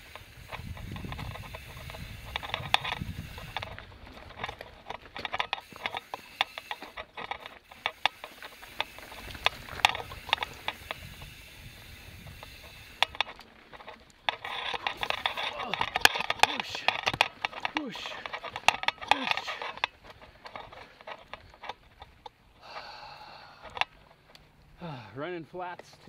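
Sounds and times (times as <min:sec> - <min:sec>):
bike clicks and knocks: 0:00.0 - 0:24.8, 0:25.6 - 0:26.0
low tyre rumble: 0:00.0 - 0:25.2.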